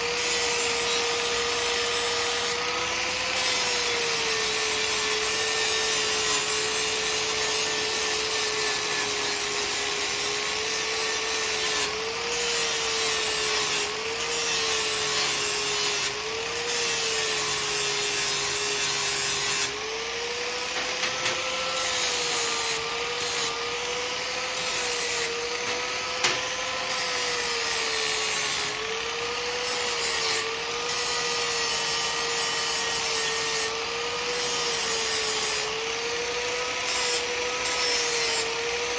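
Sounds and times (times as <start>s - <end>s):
angle grinder motor whine: 0.0s - 38.9s.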